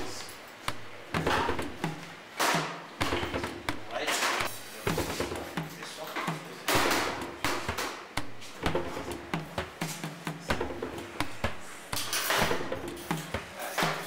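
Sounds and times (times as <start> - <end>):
background music with clicking beat: 0.0 - 14.0.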